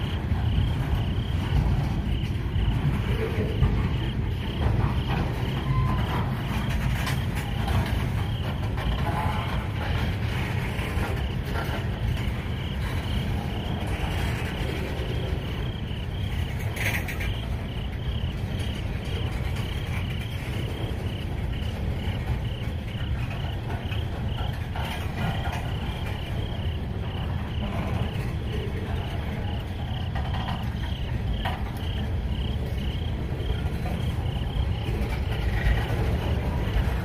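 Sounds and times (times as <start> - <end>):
freight train wheels rumbling: 0.0 - 37.0
insects chirping: 0.0 - 37.0.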